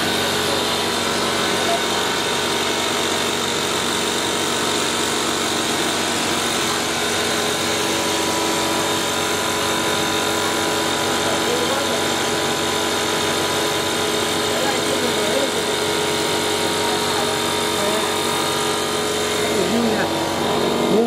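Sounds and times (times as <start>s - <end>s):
workshop machinery drone: 0.0s - 21.0s.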